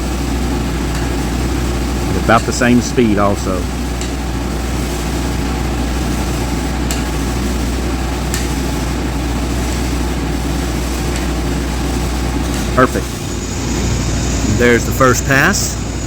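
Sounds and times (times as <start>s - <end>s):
welding machine hum and hiss: 0.0s - 16.0s.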